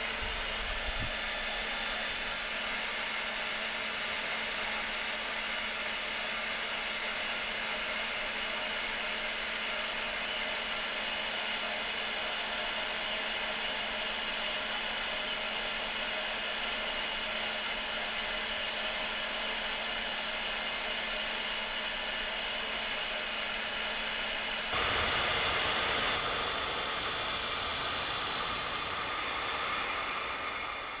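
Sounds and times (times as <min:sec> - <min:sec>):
hair dryer blowing: 0:00.0 - 0:31.0.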